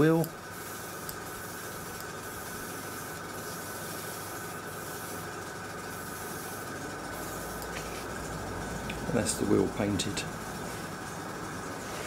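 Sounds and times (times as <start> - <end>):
airbrush hissing: 0.4 - 9.6, 10.3 - 12.0.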